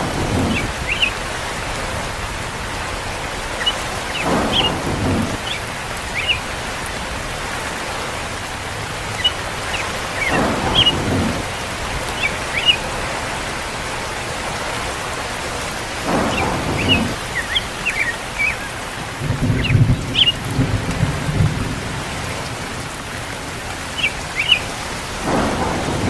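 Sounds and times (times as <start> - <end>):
steady rain: 0.0 - 26.0
thunder rolling: 0.0 - 26.0.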